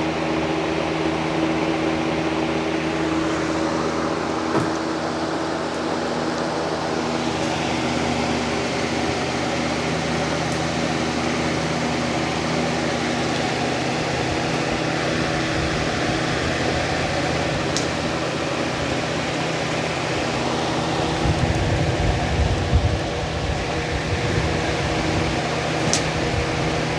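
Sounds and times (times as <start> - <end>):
box fan running: 0.0 - 26.9.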